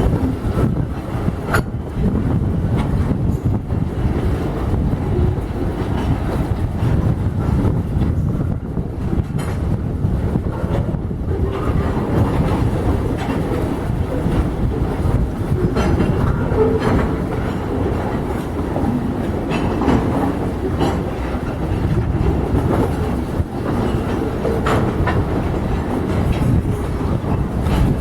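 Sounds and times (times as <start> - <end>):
freight train rumbling: 0.0 - 28.0
wheels clacking and clanking: 0.0 - 28.0.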